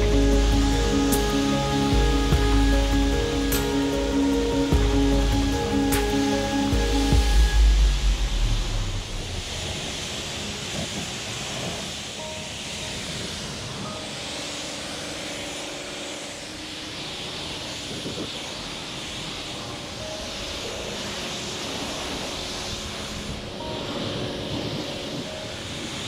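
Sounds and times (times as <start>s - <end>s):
pressure washer water spraying: 0.0s - 26.0s.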